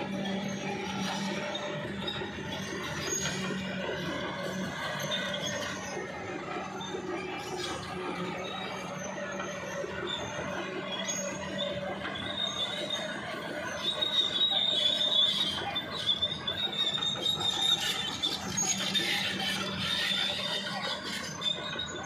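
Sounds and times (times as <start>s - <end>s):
metallic squeal of crawler tracks: 0.0s - 22.0s.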